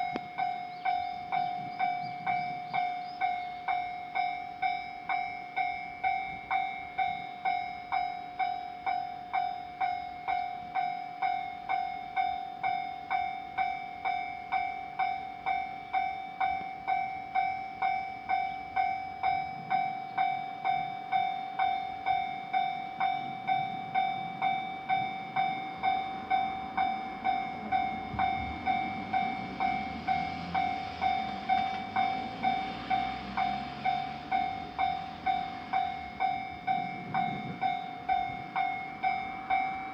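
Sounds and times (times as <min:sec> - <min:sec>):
passing train rumble: 0:00.0 - 0:39.9
railroad crossing bell ringing: 0:00.0 - 0:39.9.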